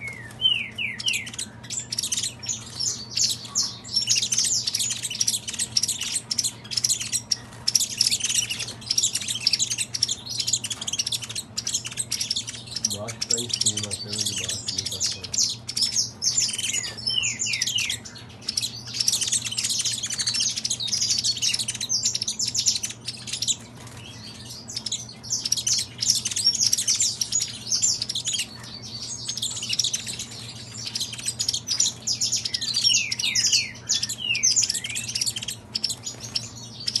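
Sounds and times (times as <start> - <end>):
caged finches and canaries singing: 0.0 - 37.0.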